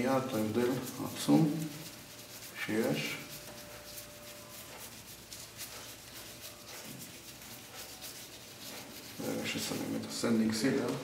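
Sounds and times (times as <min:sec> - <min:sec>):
paintbrush strokes on wood: 0:00.0 - 0:11.0.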